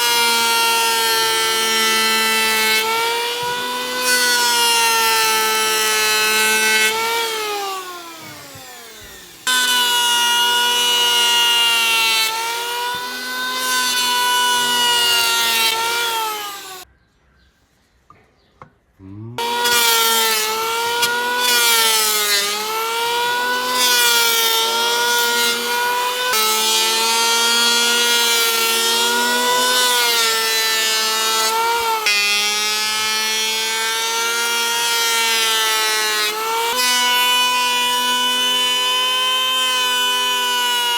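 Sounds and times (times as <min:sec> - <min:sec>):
power tool whining cutting wood: 0:00.0 - 0:16.8, 0:19.4 - 0:40.9.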